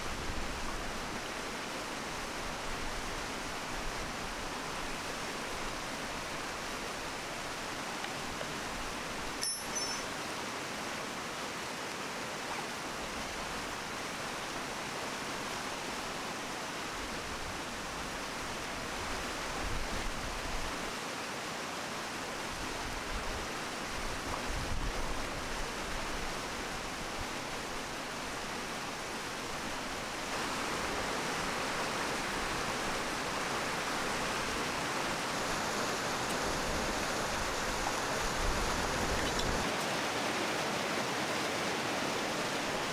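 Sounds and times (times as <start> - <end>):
mountain stream rushing: 0.0 - 42.9.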